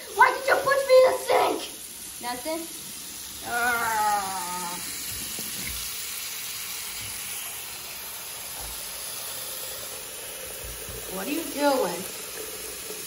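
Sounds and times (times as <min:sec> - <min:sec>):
faucet water splashing into basin: 0:00.0 - 0:13.0.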